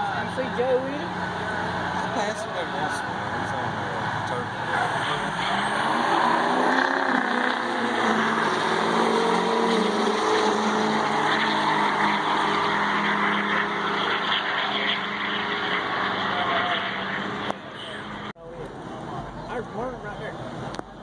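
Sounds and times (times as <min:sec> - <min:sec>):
diesel truck engines droning: 0:00.0 - 0:21.0.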